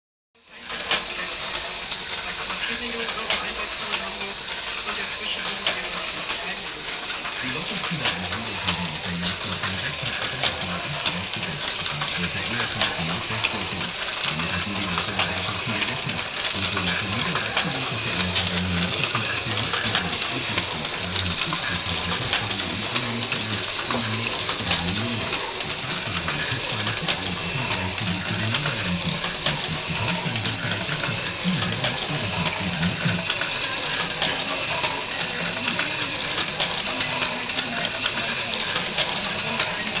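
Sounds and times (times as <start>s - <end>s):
small electric motor hissing: 0.5s - 40.0s.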